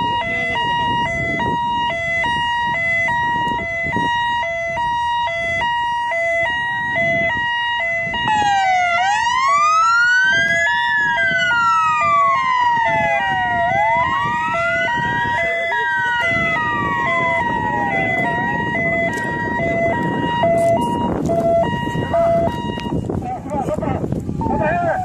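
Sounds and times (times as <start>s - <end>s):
two-tone hi-lo siren: 0.0s - 23.6s, 24.2s - 25.0s
siren wailing up and down: 0.0s - 25.0s.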